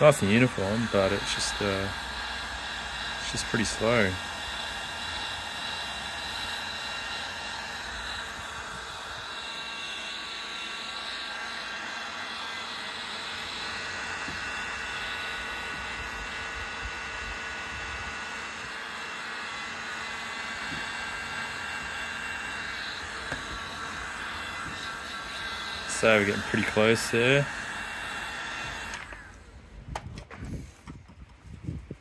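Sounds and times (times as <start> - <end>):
heat gun blower running: 0.0 - 31.1.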